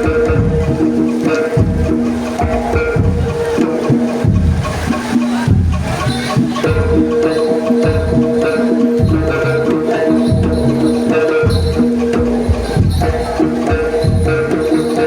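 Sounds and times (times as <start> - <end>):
drums steady beat: 0.0 - 15.0
held pitched notes: 0.0 - 15.0
jingling percussion: 0.0 - 15.0.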